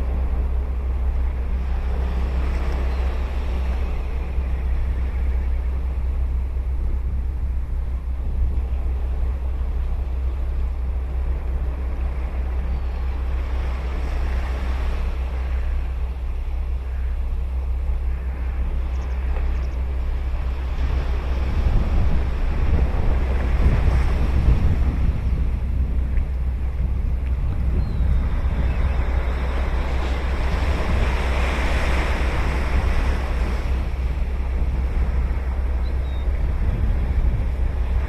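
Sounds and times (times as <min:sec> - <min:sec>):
ocean waves breaking on beach: 0:00.0 - 0:38.0
wind rumbling on microphone: 0:00.0 - 0:38.0.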